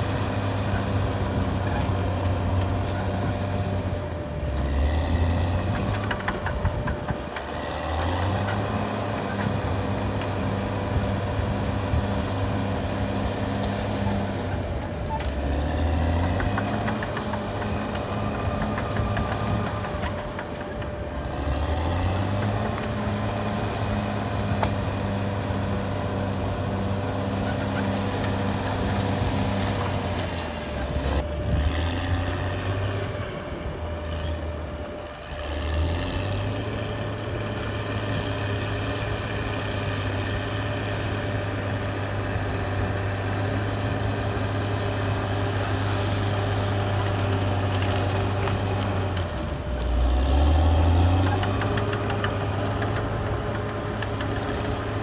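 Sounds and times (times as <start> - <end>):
bulldozer diesel engine whining: 0.0 - 55.0.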